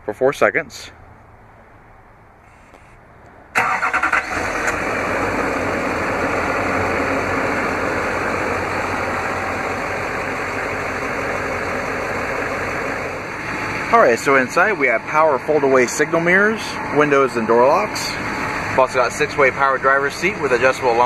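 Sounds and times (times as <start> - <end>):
diesel engine cranking and idling: 1.0 - 21.0.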